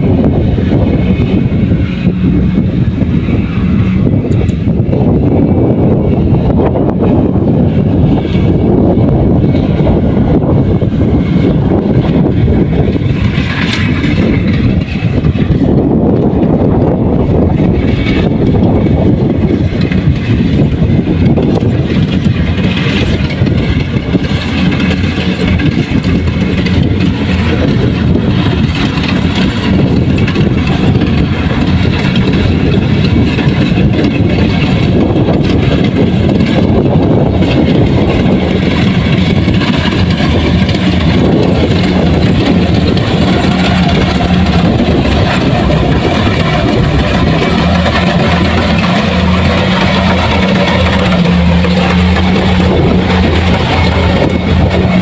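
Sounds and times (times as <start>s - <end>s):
combine harvester engine running: 0.0s - 55.0s
machine rattling and clattering: 0.0s - 55.0s.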